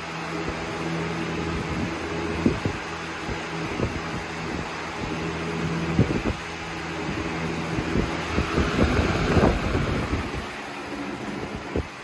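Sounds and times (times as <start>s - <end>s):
box fan running: 0.0s - 12.0s
wind buffeting microphone: 1.6s - 12.0s.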